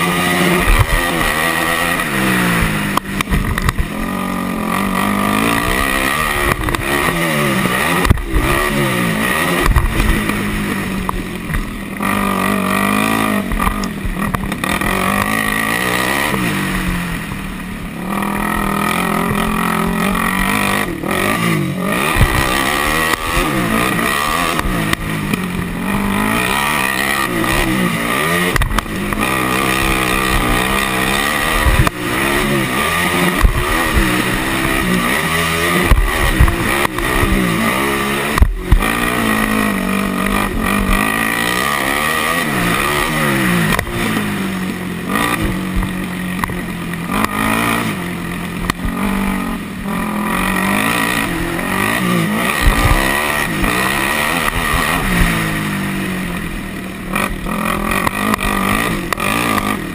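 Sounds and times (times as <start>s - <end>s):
thumps of quad hitting bumps: 0.0s - 16.5s, 18.3s - 55.6s, 56.4s - 59.9s
quad engine revving: 0.0s - 59.9s.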